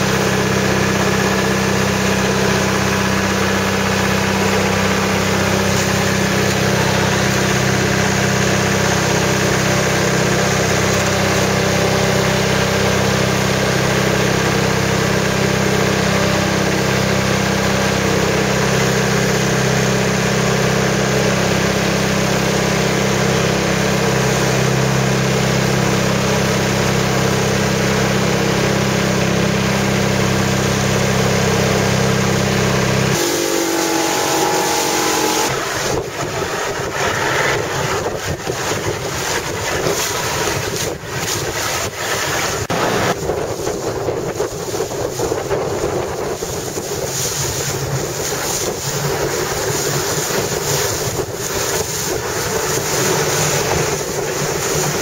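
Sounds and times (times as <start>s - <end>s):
motorboat engine running: 0.0s - 55.0s
water rushing from wake: 0.0s - 55.0s.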